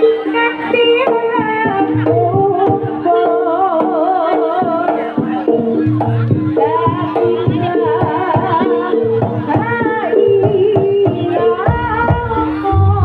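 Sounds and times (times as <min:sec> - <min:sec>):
hand drums beating: 0:00.0 - 0:13.0
ornamented melody line: 0:00.0 - 0:13.0.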